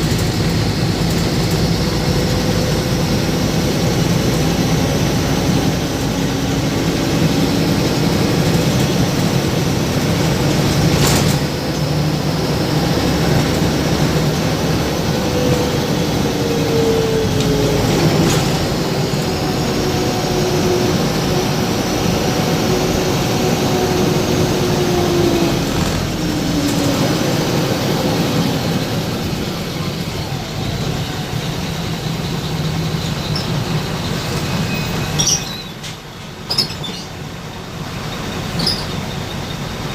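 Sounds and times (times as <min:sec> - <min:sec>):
vehicle rumble: 0:00.0 - 0:39.9.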